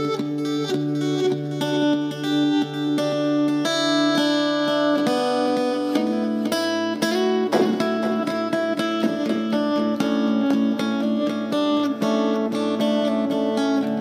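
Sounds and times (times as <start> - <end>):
acoustic guitar with delay: 0.0 - 14.0.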